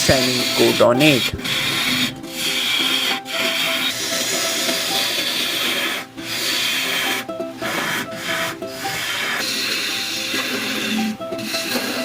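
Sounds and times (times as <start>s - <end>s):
background music: 0.0s - 12.0s
scratchy rubbing on wood lathe: 0.0s - 12.0s.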